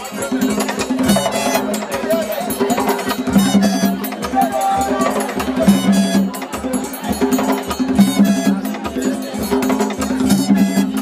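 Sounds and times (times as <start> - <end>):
clacking percussion: 0.0 - 11.0
drums: 0.0 - 11.0.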